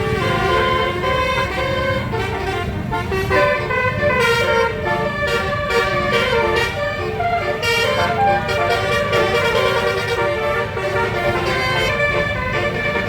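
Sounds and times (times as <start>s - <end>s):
musical air horn melody: 0.0s - 13.0s.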